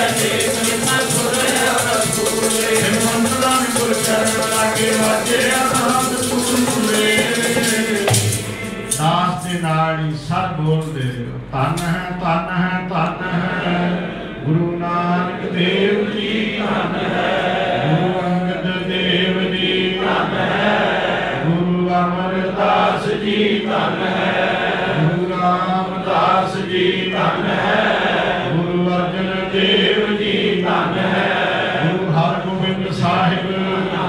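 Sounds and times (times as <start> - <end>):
man chanting a hymn: 0.0 - 34.0.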